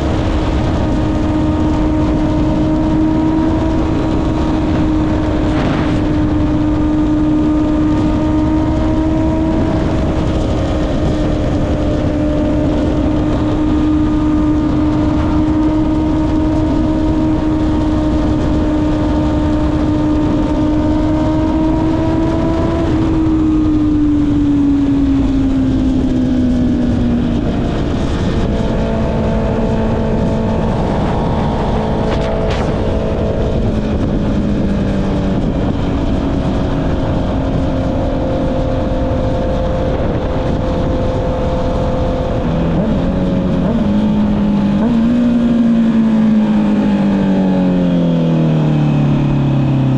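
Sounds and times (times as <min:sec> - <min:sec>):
motorcycle engine cruising: 0:00.0 - 0:49.9
wind rushing: 0:00.0 - 0:49.9.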